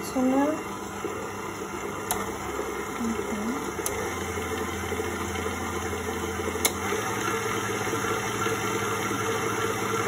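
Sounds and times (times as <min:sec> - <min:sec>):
stand mixer motor hum: 0:00.0 - 0:10.0.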